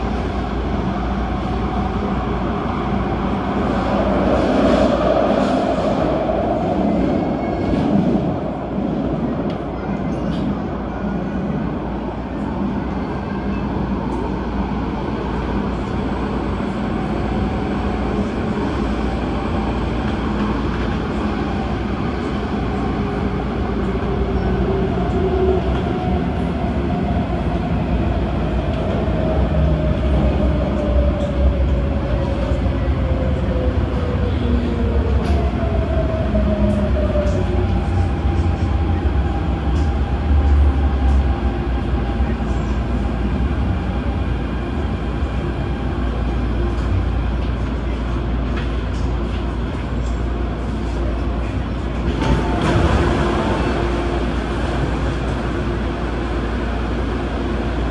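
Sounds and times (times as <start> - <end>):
train wheels and motors rumbling: 0.0 - 57.9.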